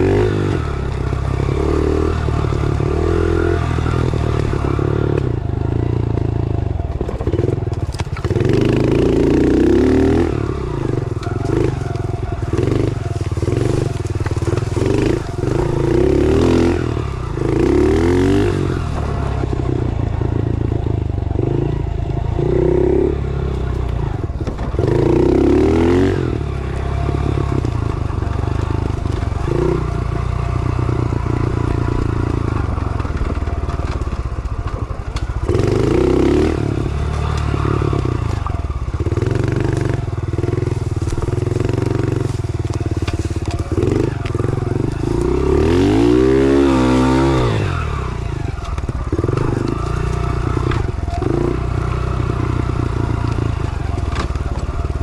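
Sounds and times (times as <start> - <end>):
small motorbike engine revving: 0.0 - 55.0.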